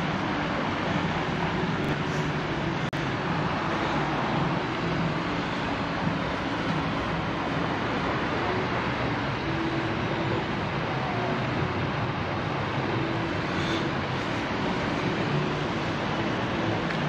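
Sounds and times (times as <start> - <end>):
distant road traffic: 0.0 - 17.0
faint engine hum: 0.0 - 17.0.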